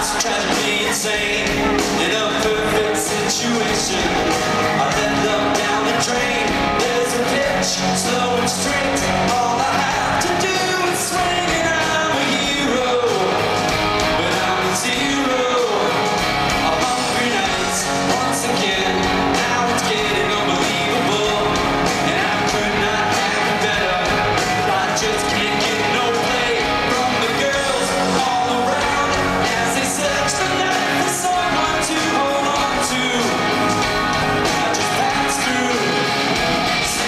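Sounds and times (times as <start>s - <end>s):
drums: 0.0s - 37.0s
electric guitars: 0.0s - 37.0s
keyboards: 0.0s - 37.0s
man singing lead: 0.0s - 37.0s.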